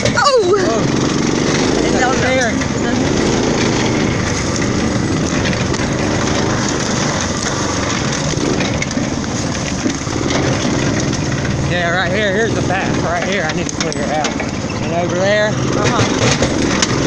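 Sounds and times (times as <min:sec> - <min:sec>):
go-kart engine running: 0:00.0 - 0:17.0
knocks and crackles from bumpy ride: 0:00.0 - 0:17.0.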